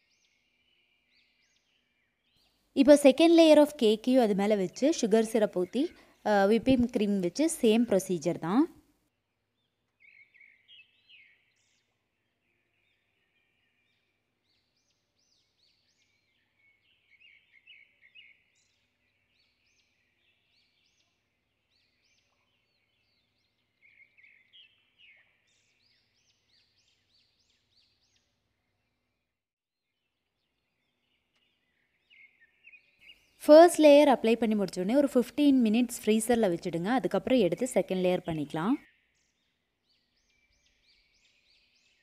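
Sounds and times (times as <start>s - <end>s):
faint bird chirping: 0.0s - 8.8s, 9.4s - 29.3s, 30.1s - 42.0s.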